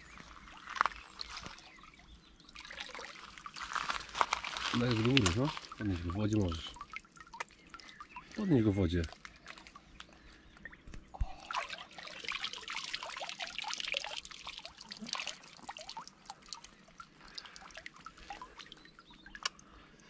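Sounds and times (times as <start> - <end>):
water splashing and dripping: 0.0 - 19.9.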